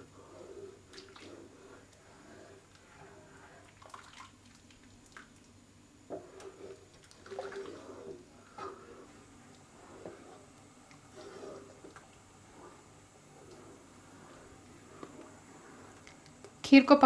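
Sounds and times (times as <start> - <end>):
thick pudding bubbling and plopping: 0.8 - 16.6.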